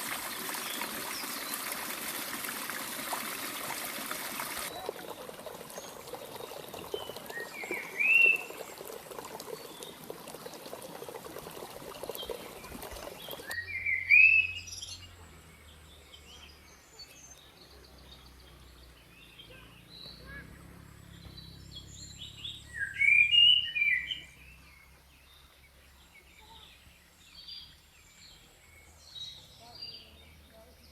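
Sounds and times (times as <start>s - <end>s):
flowing stream: 0.0s - 30.9s
songbirds singing: 0.0s - 30.9s.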